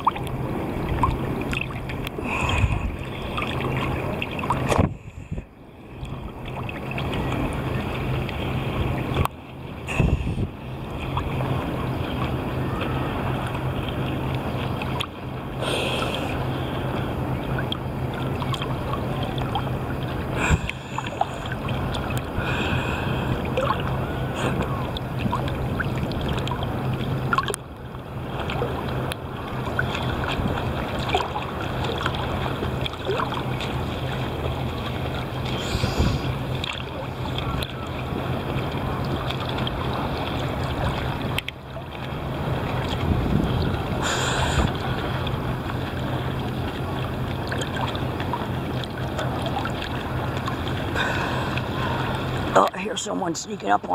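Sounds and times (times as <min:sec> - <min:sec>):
steady low hum: 0:00.0 - 0:53.9
water sloshing and splashing: 0:00.0 - 0:53.9.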